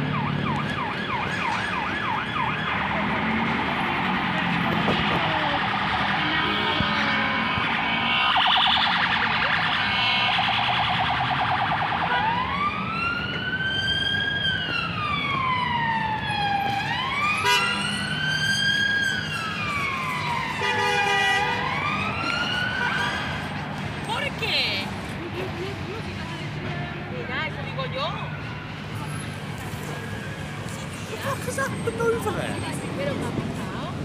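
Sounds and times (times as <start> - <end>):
emergency siren: 0.0 - 26.6, 27.2 - 34.0
city traffic rumble: 0.0 - 34.0.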